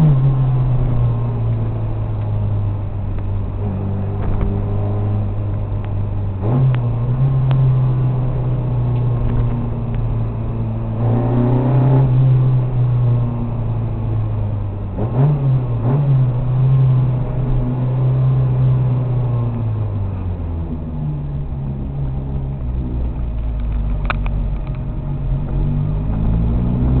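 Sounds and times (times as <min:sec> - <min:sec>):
car engine running: 0:00.0 - 0:17.8, 0:18.4 - 0:27.0.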